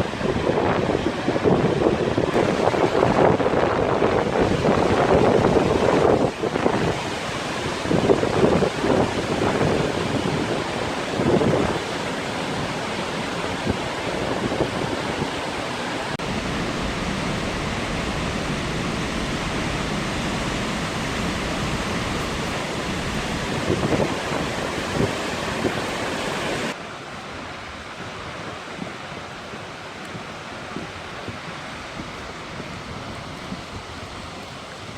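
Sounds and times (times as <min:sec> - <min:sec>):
wind blowing: 0:00.0 - 0:34.9
wind buffeting microphone: 0:00.0 - 0:34.9.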